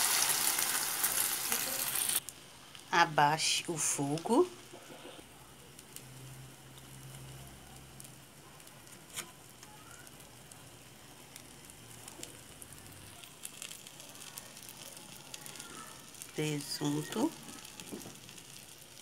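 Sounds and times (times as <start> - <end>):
omelette sizzling in a pan: 0.0 - 19.0.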